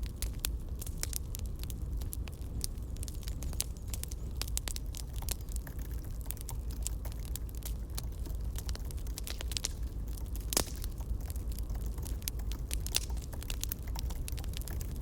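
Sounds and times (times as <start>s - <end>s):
campfire crackling: 0.0s - 15.0s
low rumble of fire: 0.0s - 15.0s.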